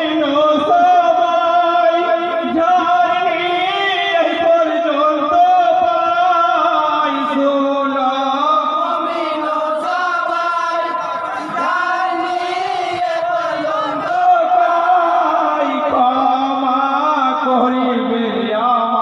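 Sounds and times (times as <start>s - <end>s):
lead singer on a microphone: 0.0s - 19.0s
men chanting in chorus: 0.0s - 19.0s.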